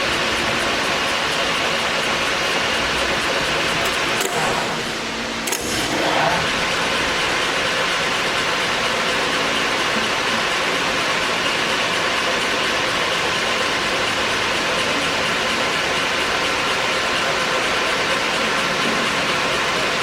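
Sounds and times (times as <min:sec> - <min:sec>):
lathe running with mechanical whir: 0:00.0 - 0:20.0.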